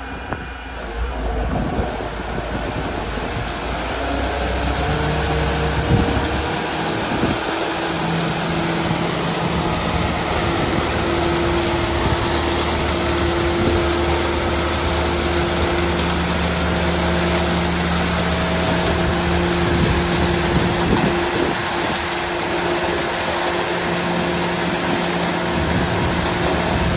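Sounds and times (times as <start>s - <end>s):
concrete mixer engine running: 0.0s - 26.9s.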